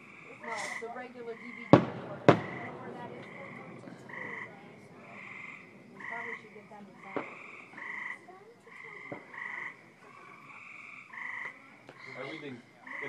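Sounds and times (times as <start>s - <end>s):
distant fireworks bangs: 0.0s - 13.0s
frogs trilling: 0.0s - 13.0s.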